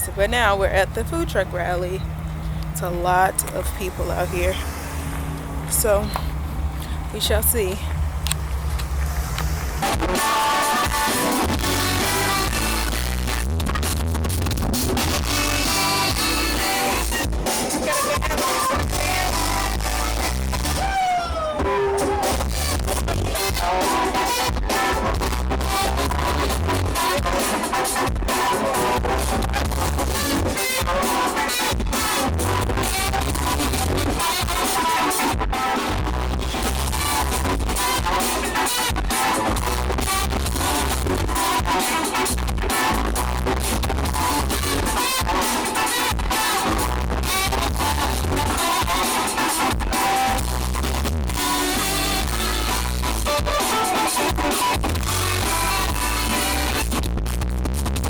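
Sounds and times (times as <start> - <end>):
bass: 0.0 - 58.0
drum kit: 9.8 - 20.8, 22.0 - 58.0.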